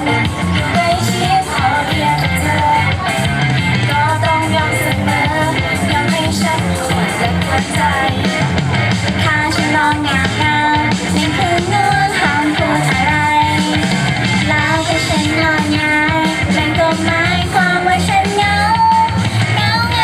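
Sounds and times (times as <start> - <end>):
pop song with sung vocal: 0.0 - 20.0.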